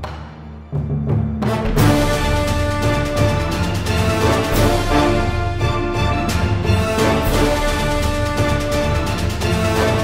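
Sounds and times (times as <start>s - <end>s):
background soundtrack music: 0.0s - 10.0s.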